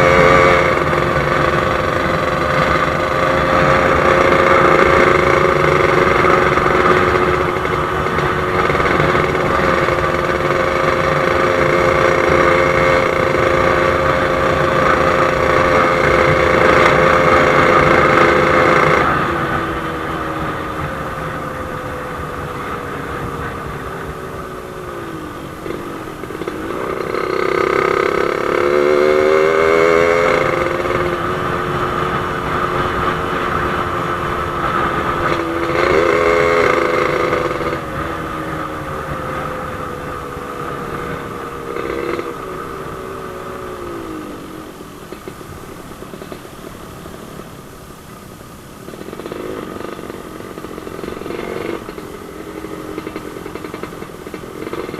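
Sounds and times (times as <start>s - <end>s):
motorcycle engine revving: 0.0s - 48.1s, 48.7s - 54.9s.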